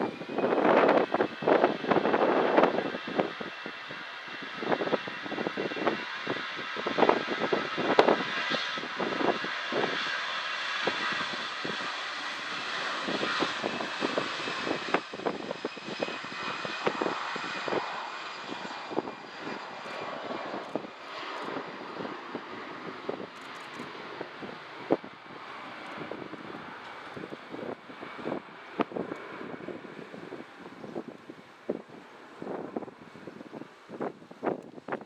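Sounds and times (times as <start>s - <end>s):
jet engines roaring: 0.0s - 35.0s
wind buffeting microphone: 0.0s - 35.0s.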